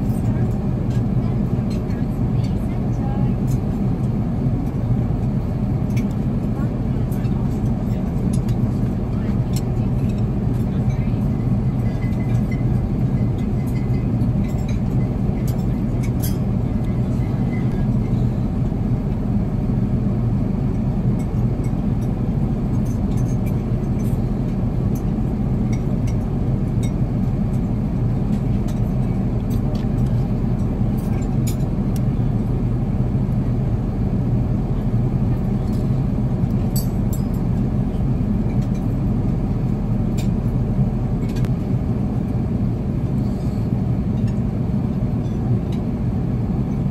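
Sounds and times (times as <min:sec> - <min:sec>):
aircraft cabin drone: 0:00.0 - 0:46.9.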